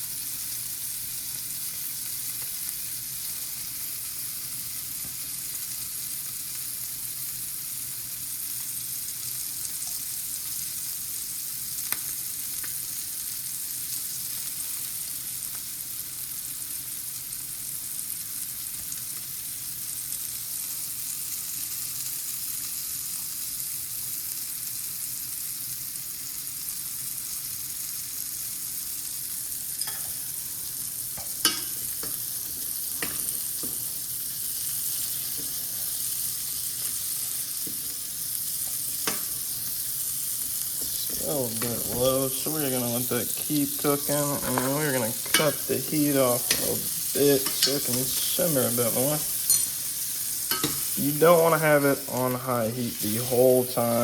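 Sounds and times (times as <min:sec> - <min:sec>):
steak sizzling in a pan: 0:00.0 - 0:54.0.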